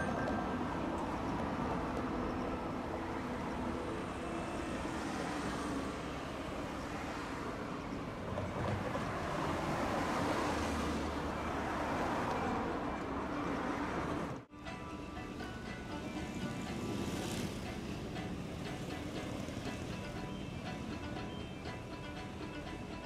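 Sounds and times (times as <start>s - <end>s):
vehicle rumble with hiss: 0.0s - 23.0s.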